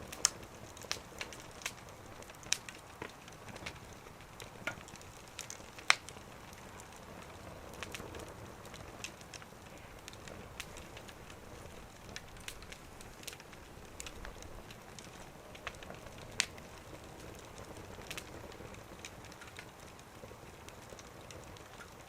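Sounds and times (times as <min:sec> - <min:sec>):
low hiss of burning: 0:00.0 - 0:22.0
sharp pops of fire: 0:00.0 - 0:22.0
wood fire crackling: 0:00.0 - 0:22.0.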